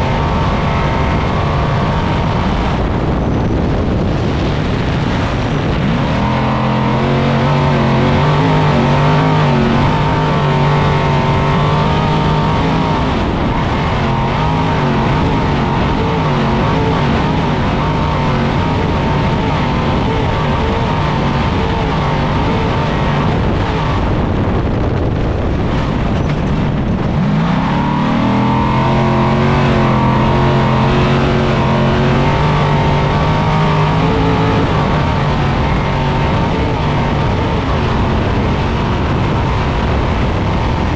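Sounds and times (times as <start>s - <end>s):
steady rush of noise: 0.0s - 40.9s
truck engine revving hard: 0.0s - 40.9s.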